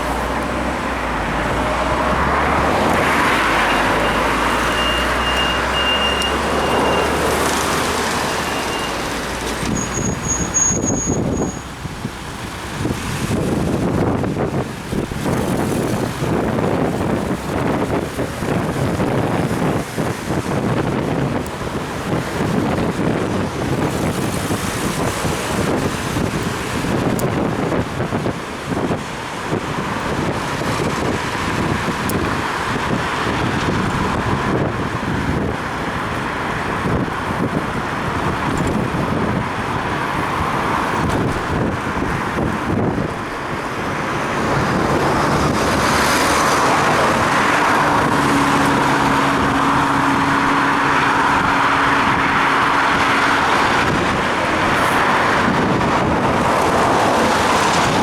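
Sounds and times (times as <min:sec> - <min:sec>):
motor vehicle engine hum: 0:00.0 - 0:58.0
road traffic: 0:00.0 - 0:58.0
tyres hissing on wet road: 0:00.0 - 0:58.0
wind buffeting microphone: 0:00.0 - 0:58.0.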